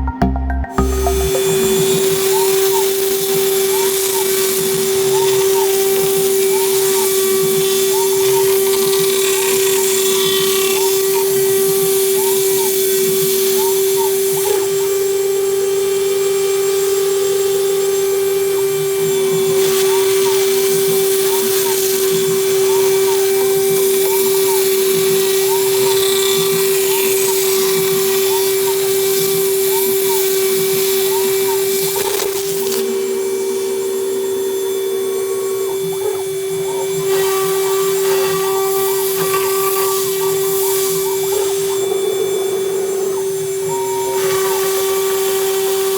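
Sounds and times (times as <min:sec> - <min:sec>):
router spindle whine: 0:00.8 - 0:45.9.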